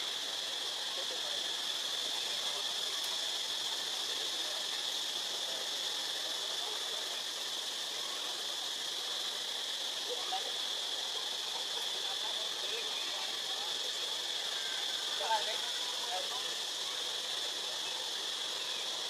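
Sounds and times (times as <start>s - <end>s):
high-pitched forest hiss: 0.0s - 19.0s.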